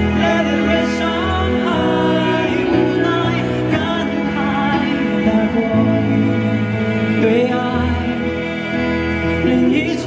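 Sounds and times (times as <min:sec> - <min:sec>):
person singing: 0:00.0 - 0:10.0
pop ballad through speakers: 0:00.0 - 0:10.0.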